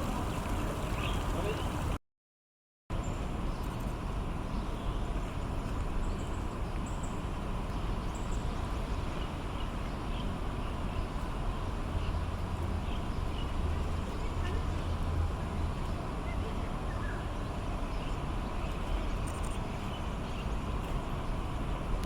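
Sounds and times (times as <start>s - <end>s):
distant road traffic rumble: 0.0s - 2.0s, 4.0s - 22.0s.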